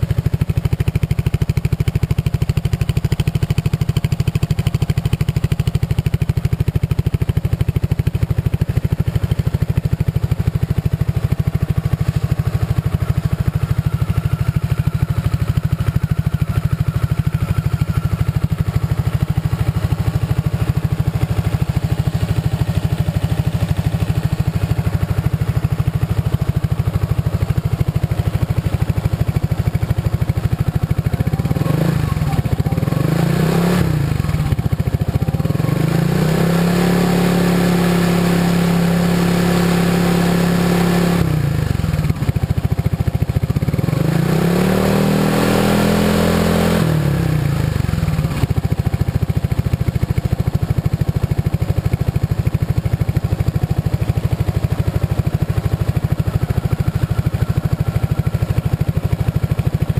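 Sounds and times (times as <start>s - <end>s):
scooter engine idling and revving: 0.0s - 59.9s.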